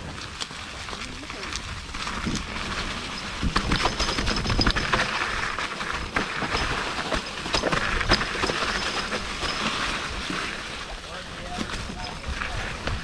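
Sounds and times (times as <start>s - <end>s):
bike rattling over bumps: 0.0s - 13.0s
bike tyres rolling on dirt trail: 0.0s - 13.0s.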